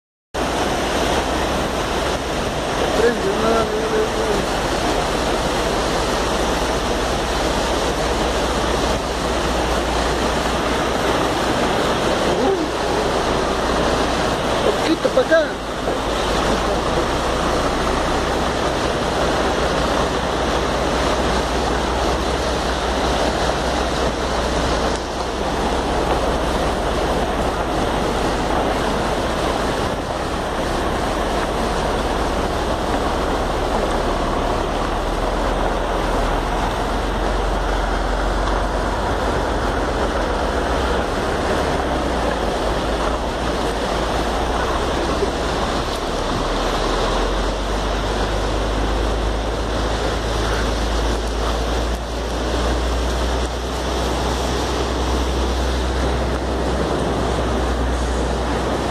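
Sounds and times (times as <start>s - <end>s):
diesel truck engine running: 0.4s - 58.9s
river rushing over rapids: 0.4s - 58.9s.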